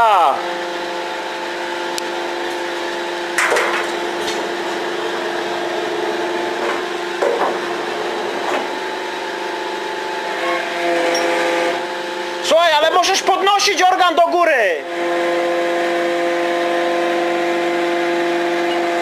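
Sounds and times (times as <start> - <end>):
machine drone: 0.0 - 13.3, 14.6 - 19.0.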